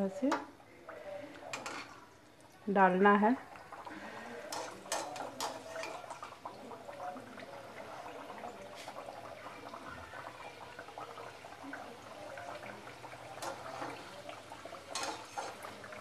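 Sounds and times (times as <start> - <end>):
oil bubbling and sizzling: 0.0 - 16.0.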